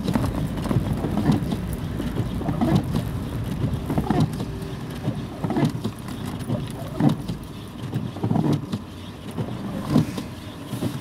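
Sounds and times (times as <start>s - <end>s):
car engine and road rumble: 0.0s - 11.0s
knocks and bumps over snow: 0.0s - 11.0s.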